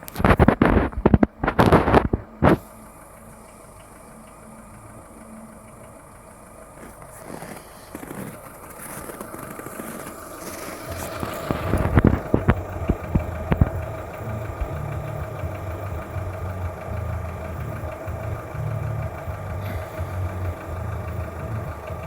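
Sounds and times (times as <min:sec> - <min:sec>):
car engine idling: 0:00.0 - 0:22.0
engine knocking: 0:00.0 - 0:22.0
low pulsing rumble: 0:00.0 - 0:22.0.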